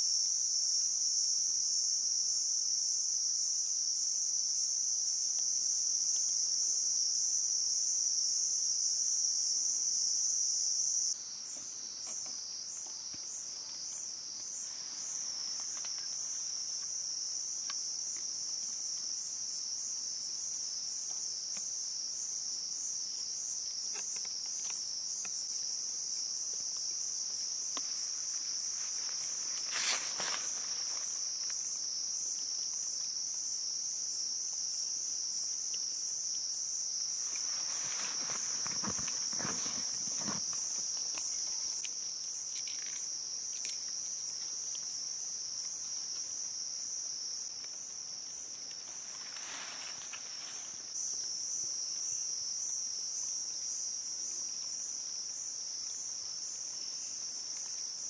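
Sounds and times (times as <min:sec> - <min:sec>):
insects buzzing: 0:00.0 - 0:58.0
rustle: 0:00.0 - 0:58.0.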